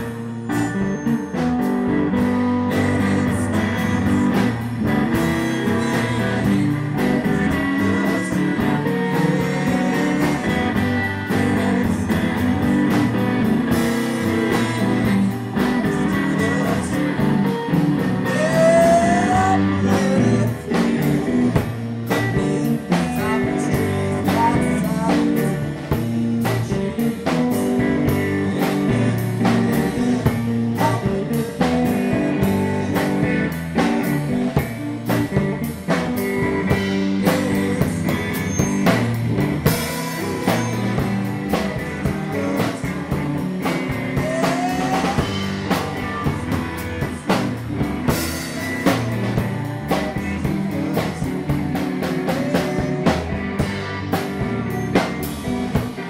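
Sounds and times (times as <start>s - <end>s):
drum kit with cymbals: 0.0s - 56.0s
rock band playing: 0.0s - 56.0s.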